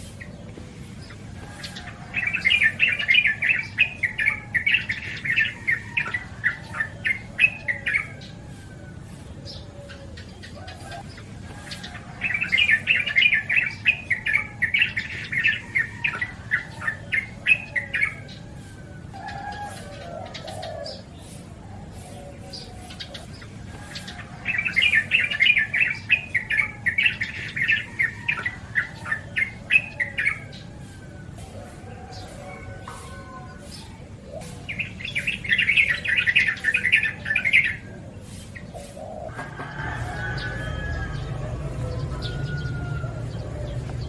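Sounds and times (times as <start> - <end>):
bird chattering song: 0.0 - 44.0.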